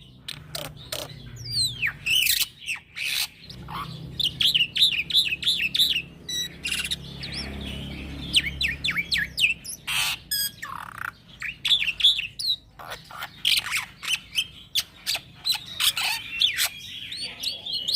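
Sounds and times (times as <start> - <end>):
starling singing: 0.0 - 17.9.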